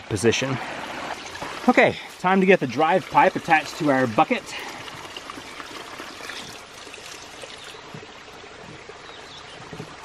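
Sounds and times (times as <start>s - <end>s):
creek water rushing: 0.0s - 10.0s
water trickling: 0.2s - 10.0s.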